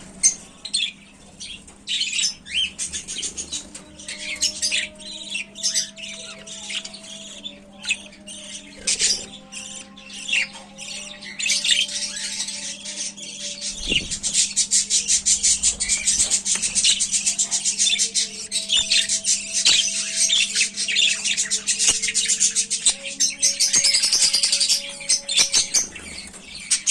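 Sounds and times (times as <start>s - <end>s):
bird chicks squawking and chirping: 0.0s - 26.9s.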